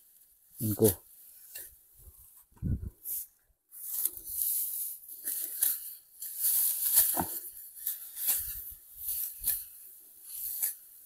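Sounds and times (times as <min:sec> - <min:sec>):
sickles cutting dry rice stalks: 0:00.0 - 0:02.4, 0:03.0 - 0:11.0.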